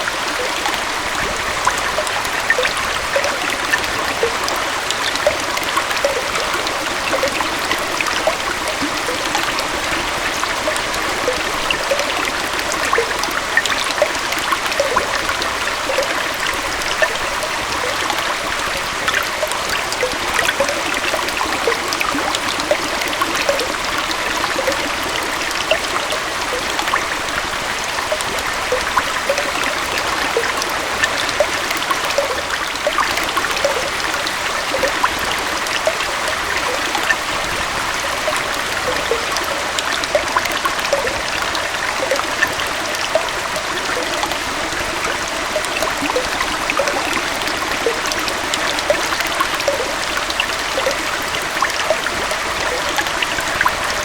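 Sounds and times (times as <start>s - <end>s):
waterfall and stream flowing: 0.0s - 54.0s.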